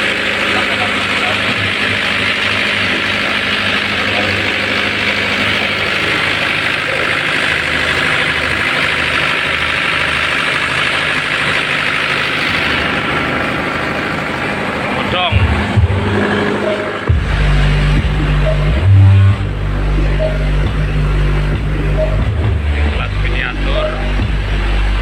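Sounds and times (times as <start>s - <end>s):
heavy engine idling: 0.0s - 25.0s.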